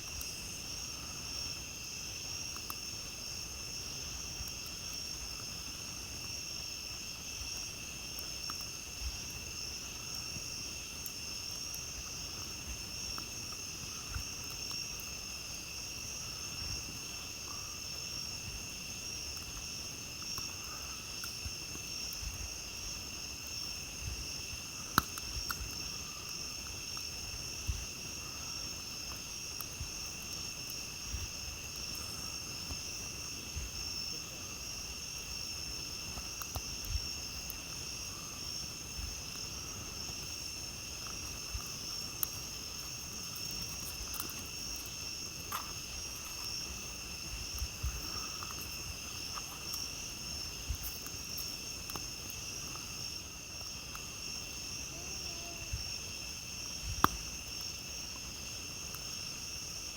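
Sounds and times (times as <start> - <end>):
campfire crackling and popping: 0.0 - 59.9
crickets trilling: 0.0 - 59.9.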